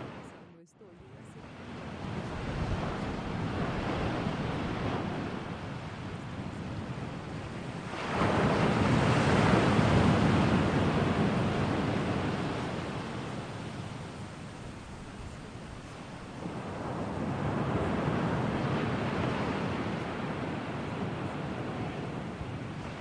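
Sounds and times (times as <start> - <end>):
rushing noise like surf: 1.4 - 23.0.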